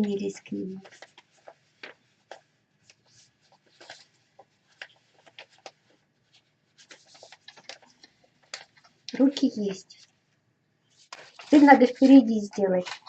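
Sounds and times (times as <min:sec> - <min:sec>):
paper rustling and tapping: 0:00.0 - 0:10.2, 0:11.0 - 0:13.0.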